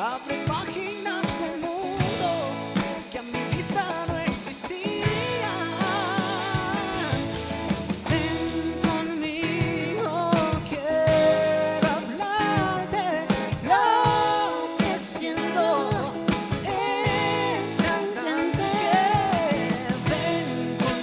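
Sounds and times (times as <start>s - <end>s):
steady music beat: 2.0s - 21.0s.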